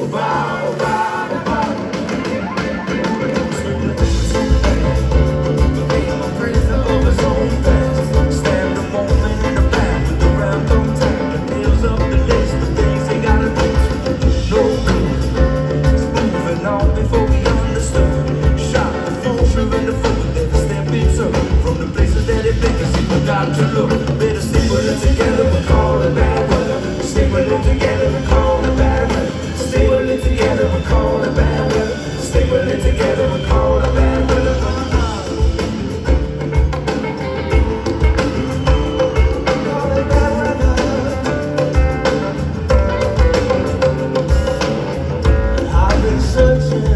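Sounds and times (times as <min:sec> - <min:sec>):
bass line: 0:00.0 - 0:46.9
drum beat: 0:00.0 - 0:46.9
live band playing: 0:00.0 - 0:46.9
person singing: 0:00.0 - 0:46.9.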